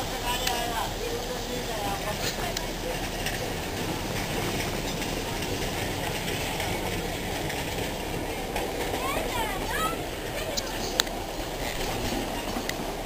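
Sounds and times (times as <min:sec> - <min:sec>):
train wheels rumbling and rattling: 0:00.0 - 0:13.0.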